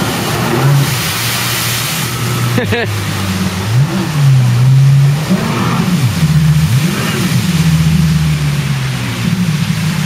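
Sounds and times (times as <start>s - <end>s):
jet ski engine revving: 0.0s - 10.0s.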